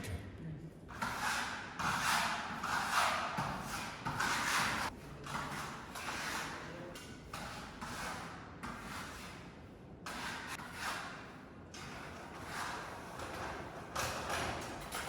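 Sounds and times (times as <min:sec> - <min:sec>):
putty knife scraping filler: 0:00.9 - 0:15.0.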